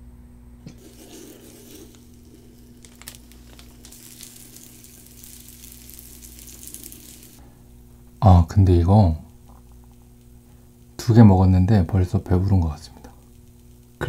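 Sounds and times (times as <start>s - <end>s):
faint steady hum: 0.0s - 14.0s
oil sizzling in frying pan: 0.8s - 8.2s, 8.8s - 14.0s.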